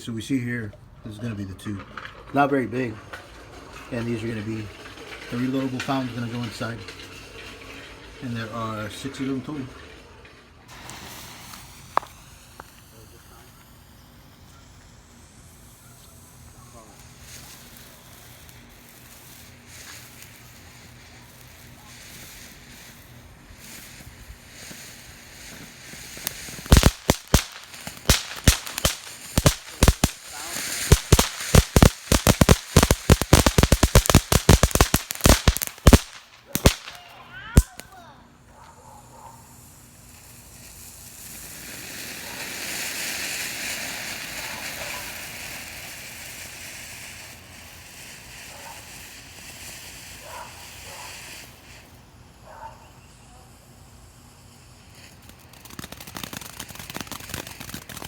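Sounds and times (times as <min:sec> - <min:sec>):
firework crackling and popping: 0:01.9 - 0:38.1, 0:39.0 - 0:58.0
firework sparks hissing: 0:03.2 - 0:38.0, 0:38.8 - 0:58.0.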